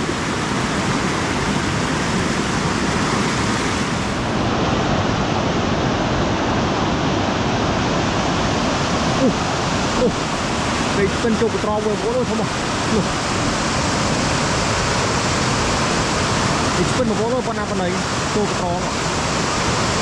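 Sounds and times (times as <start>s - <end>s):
fast-flowing water rushing: 0.0s - 20.0s.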